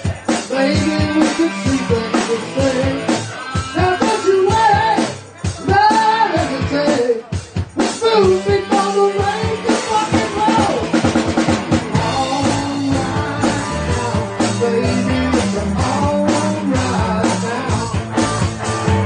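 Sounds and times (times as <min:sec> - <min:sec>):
person singing: 0:00.0 - 0:11.0, 0:11.8 - 0:19.0
drum kit: 0:00.0 - 0:19.0
rock song: 0:00.0 - 0:19.0.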